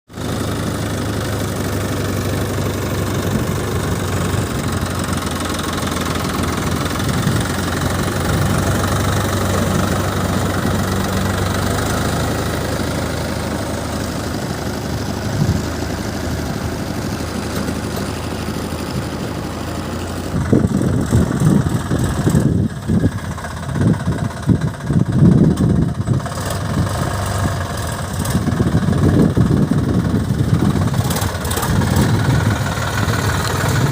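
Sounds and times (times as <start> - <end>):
diesel machinery idling: 0.1 - 33.9
uneven low rumbles: 1.3 - 33.9.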